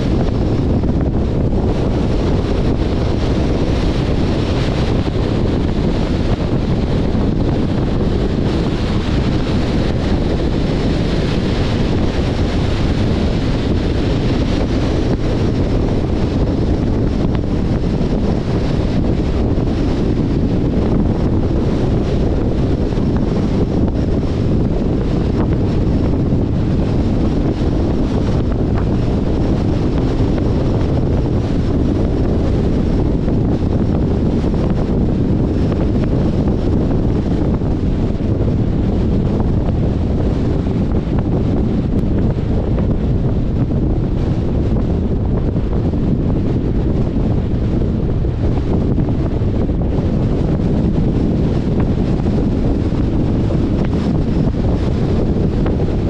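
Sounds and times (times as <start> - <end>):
car road noise: 0.0 - 56.0
wind rushing over microphone: 0.0 - 56.0.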